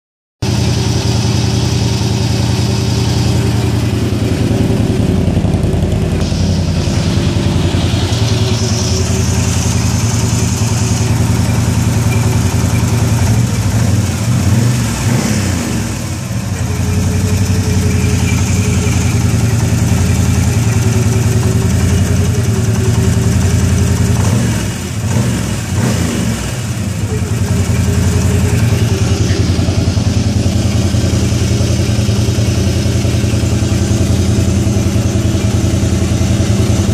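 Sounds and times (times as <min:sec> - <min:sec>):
atv engine idling: 0:00.4 - 0:36.9.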